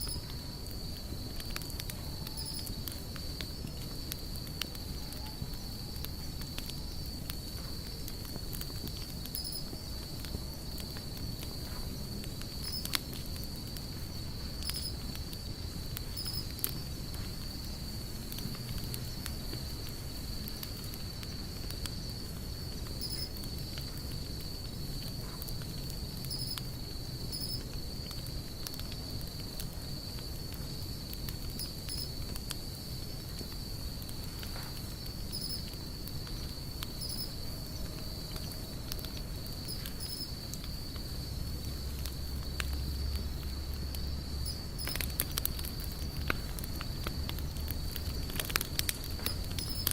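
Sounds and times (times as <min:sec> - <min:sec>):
campfire crackling and popping: 0:00.0 - 0:49.9
insect trill: 0:00.0 - 0:49.9
low rumble of flames: 0:00.0 - 0:49.9.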